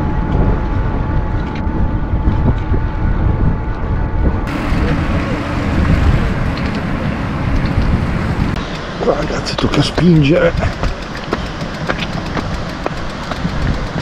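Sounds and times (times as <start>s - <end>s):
bike rolling on paved path: 0.0s - 14.0s
wind buffeting microphone: 0.0s - 14.0s.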